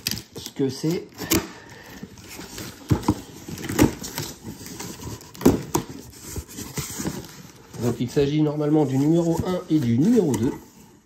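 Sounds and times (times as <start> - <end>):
cardboard rustling: 0.0 - 11.0.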